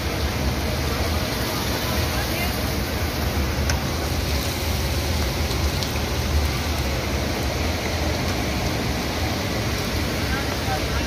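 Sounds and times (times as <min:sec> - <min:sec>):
broth pouring into a metal pot: 0:00.0 - 0:11.0.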